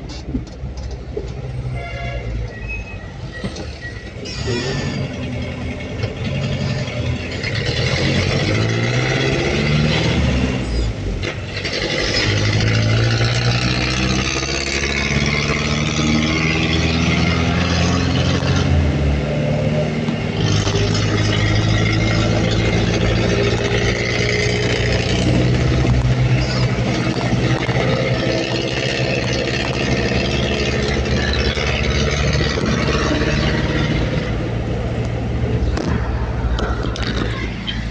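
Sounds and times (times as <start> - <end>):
road noise: 0.0 - 37.9
pickup truck engine accelerating: 3.2 - 37.9.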